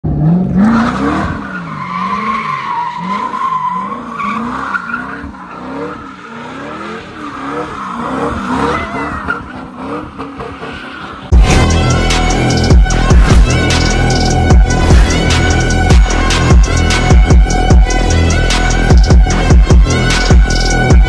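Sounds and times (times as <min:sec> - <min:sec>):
car engine revving: 0:00.0 - 0:21.0
tires squealing on pavement: 0:00.2 - 0:21.0.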